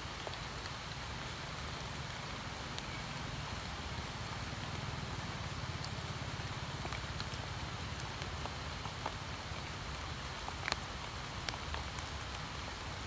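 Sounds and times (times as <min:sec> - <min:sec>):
rain falling on pond and leaves: 0:00.0 - 0:13.0.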